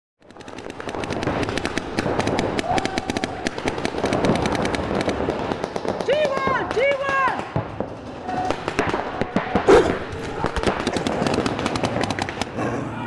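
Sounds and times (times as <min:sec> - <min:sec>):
paintball markers firing: 0:00.2 - 0:12.6.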